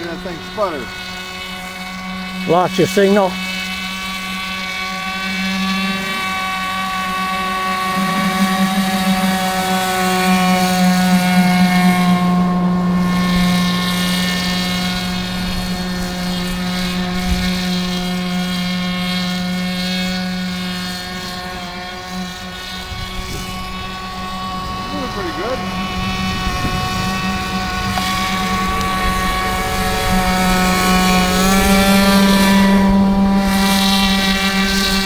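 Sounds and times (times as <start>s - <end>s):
model boat engine running high: 0.0s - 35.0s.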